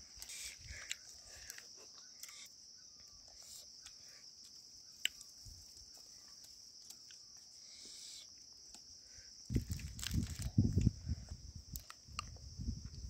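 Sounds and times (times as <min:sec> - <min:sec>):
insect chorus buzzing: 0:00.0 - 0:13.0.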